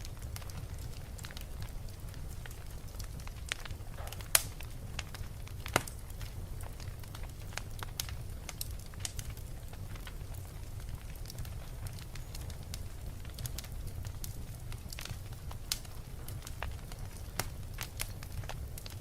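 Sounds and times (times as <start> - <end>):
fire crackling: 0.0 - 19.0
fire rumbling: 0.0 - 19.0
loud fire pops: 0.0 - 19.0.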